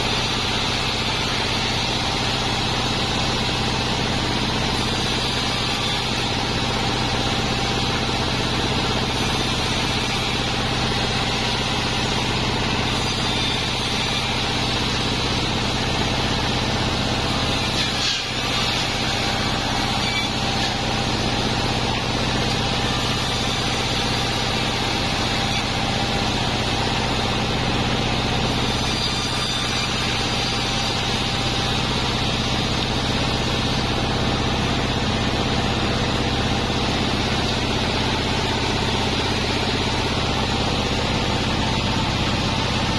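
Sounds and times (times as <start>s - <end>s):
bandsaw running: 0.0s - 42.9s.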